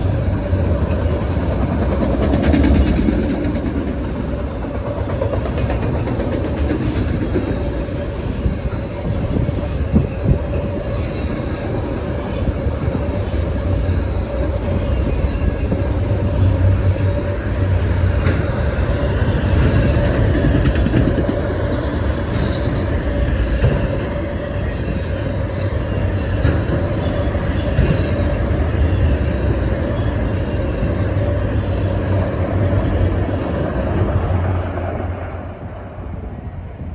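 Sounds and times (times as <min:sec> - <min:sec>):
train rumbling on rails: 0:00.0 - 0:36.9.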